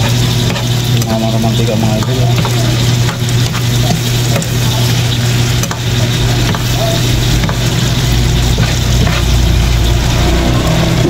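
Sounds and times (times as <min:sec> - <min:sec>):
meat sizzling in a wok: 0:00.0 - 0:11.0.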